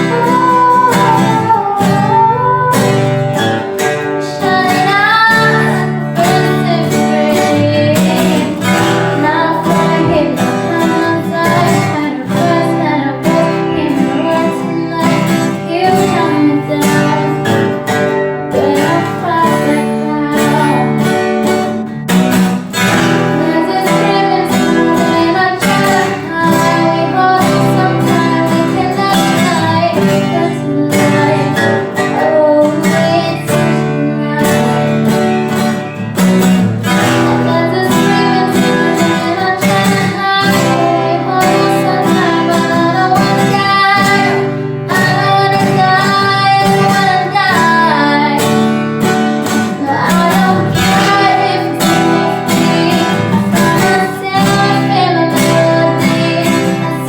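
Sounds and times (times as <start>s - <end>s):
strummed acoustic guitar: 0.0s - 57.0s
woman singing: 0.0s - 57.0s.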